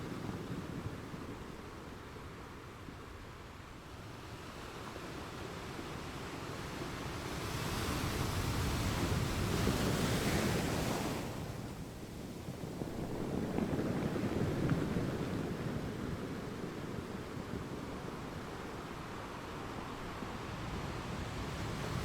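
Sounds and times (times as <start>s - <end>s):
ocean waves washing onto shore: 0.0s - 22.0s.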